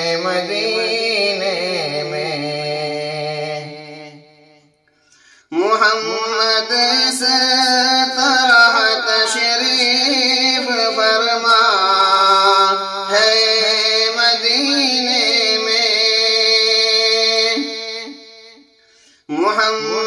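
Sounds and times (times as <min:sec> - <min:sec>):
man singing unaccompanied: 0:00.0 - 0:04.6, 0:05.5 - 0:18.6, 0:19.3 - 0:20.0.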